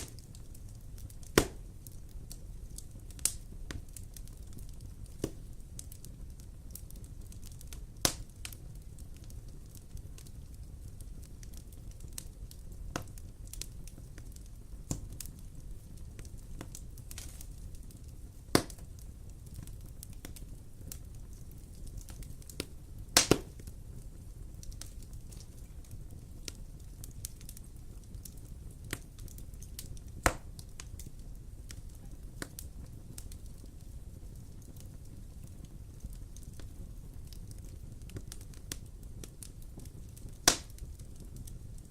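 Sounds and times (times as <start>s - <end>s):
fire popping: 0.0s - 41.9s
rumble of flames: 0.0s - 41.9s
wood fire crackling: 0.0s - 41.9s.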